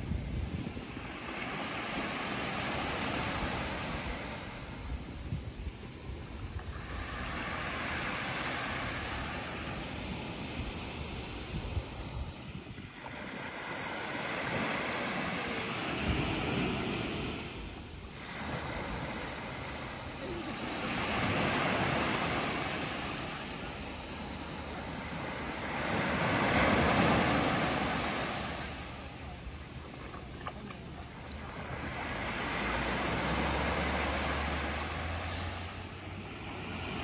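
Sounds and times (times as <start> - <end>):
waves breaking on a beach: 0.0 - 37.0
wind rumble on microphone: 0.0 - 37.0.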